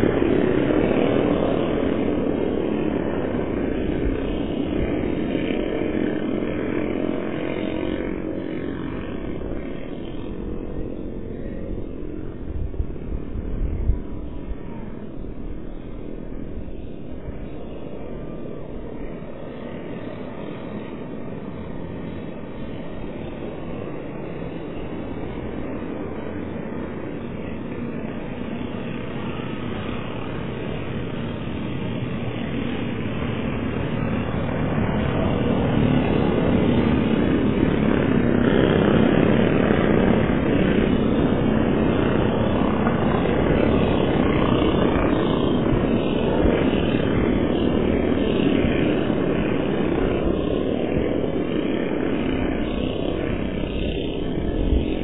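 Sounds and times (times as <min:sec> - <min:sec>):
kart engines droning: 0:00.0 - 0:55.0.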